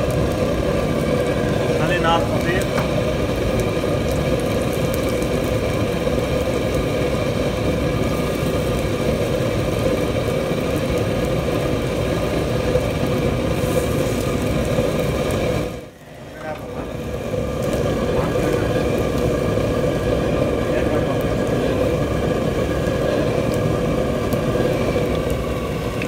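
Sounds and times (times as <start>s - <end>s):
loud machine drone: 0.0s - 26.0s
patties frying in oil: 0.0s - 26.0s.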